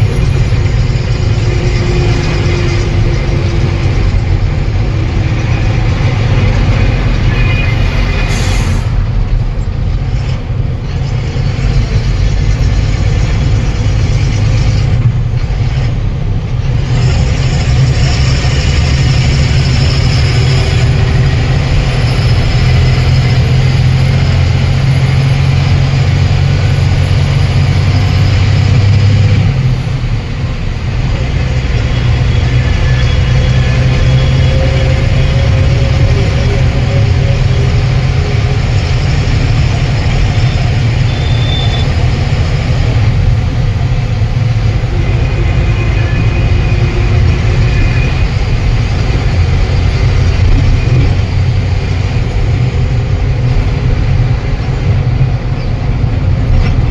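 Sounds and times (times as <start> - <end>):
truck engine droning: 0.0 - 56.9.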